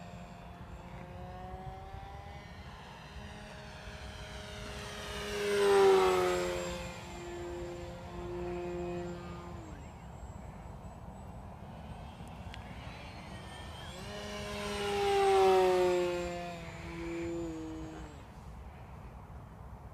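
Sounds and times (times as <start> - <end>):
model plane motor whining: 0.0 - 18.8.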